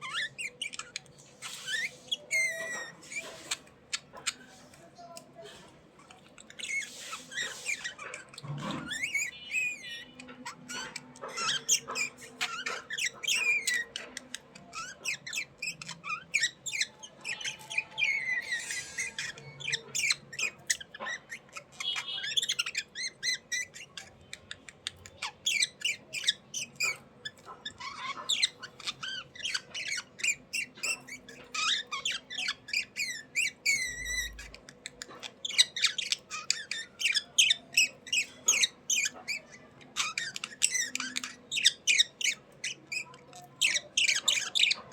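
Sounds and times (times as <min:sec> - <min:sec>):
budgerigars chirping: 0:00.0 - 0:04.8, 0:05.5 - 0:44.9.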